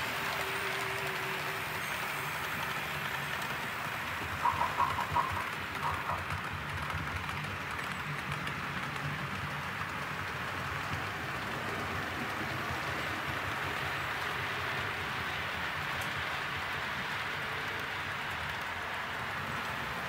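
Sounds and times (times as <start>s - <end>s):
model train rumbling on rails: 0.0s - 20.0s.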